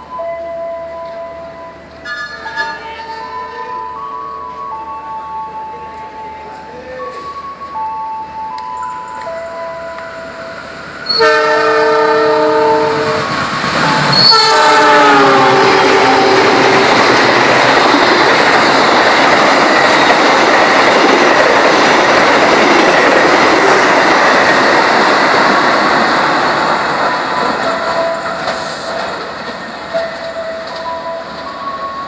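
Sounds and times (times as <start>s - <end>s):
train rushing past: 1.3s - 32.0s.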